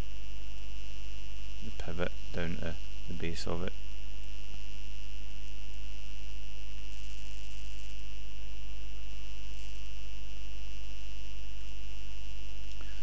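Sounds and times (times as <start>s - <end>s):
electrical mains hum: 0.0s - 13.0s
high whine: 0.0s - 13.0s.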